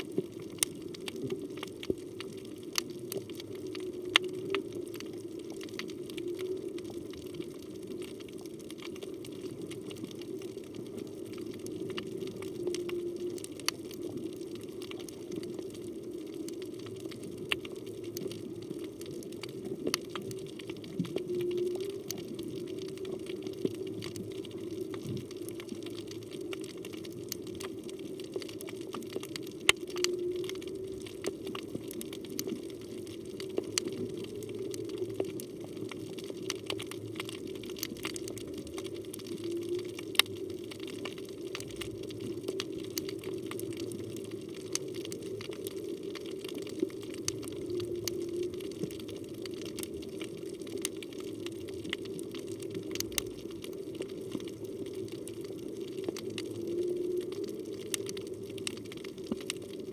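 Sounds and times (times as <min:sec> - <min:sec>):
sharp crackling clicks: 0:00.0 - 0:59.9
steady low underwater hum: 0:00.0 - 0:59.9.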